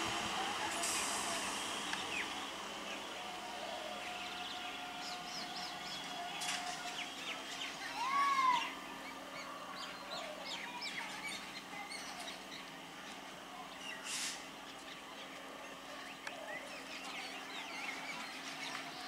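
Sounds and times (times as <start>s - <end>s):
faint train hum: 0.0s - 19.0s.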